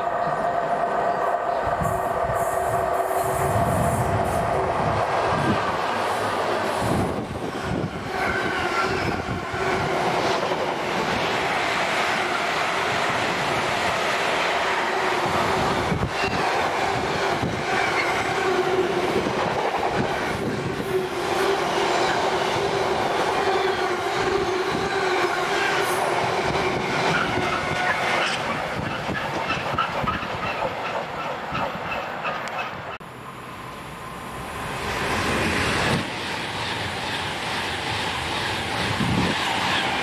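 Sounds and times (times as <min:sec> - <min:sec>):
electric train rushing: 0:00.0 - 0:40.0.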